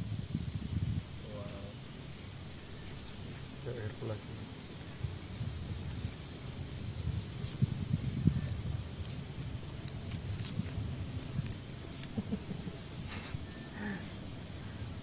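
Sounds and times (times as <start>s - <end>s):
bird chirp: 1.1s - 15.0s.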